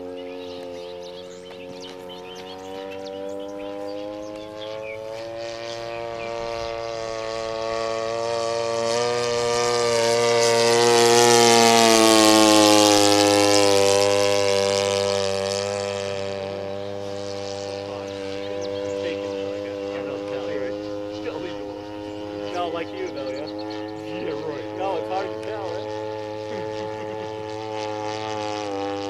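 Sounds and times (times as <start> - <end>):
model airplane engine drone: 0.0 - 29.0.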